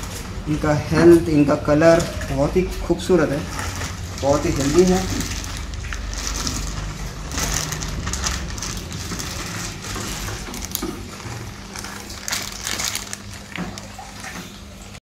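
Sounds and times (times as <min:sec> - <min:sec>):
low electrical hum: 0:00.0 - 0:15.0
water splashing and sloshing: 0:00.0 - 0:15.0.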